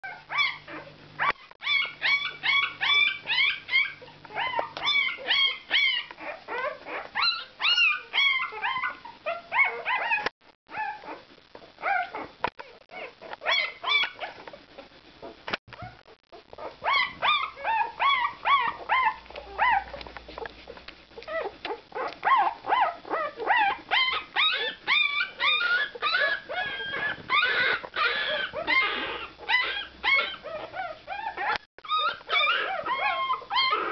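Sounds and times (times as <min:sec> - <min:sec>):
puppies squeaking and whimpering: 0:00.0 - 0:11.2, 0:11.8 - 0:14.6, 0:15.2 - 0:33.9.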